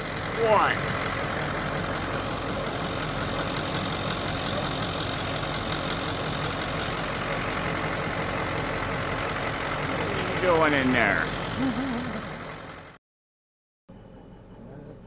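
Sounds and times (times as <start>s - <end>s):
road and cab noise: 0.0s - 13.0s, 13.9s - 15.0s
truck engine running: 0.0s - 13.0s.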